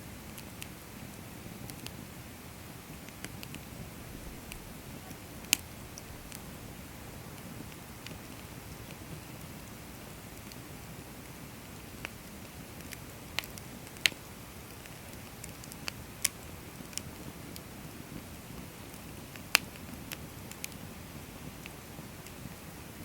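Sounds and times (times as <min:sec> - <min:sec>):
low steady hiss: 0:00.0 - 0:23.0
firewood crackling and popping: 0:00.1 - 0:23.0.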